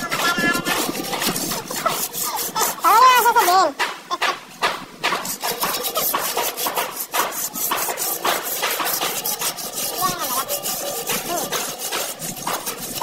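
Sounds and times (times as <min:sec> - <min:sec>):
sanding pad rasping on wall: 0:00.0 - 0:13.0.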